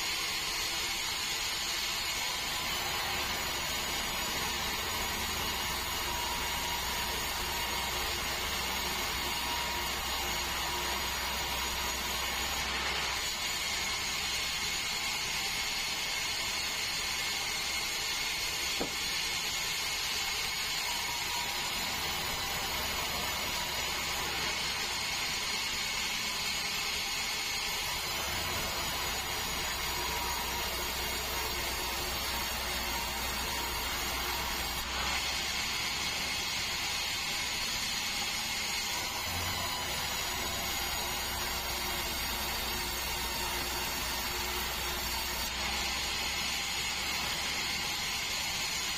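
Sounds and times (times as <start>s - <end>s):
band saw cutting log: 0.0s - 48.9s.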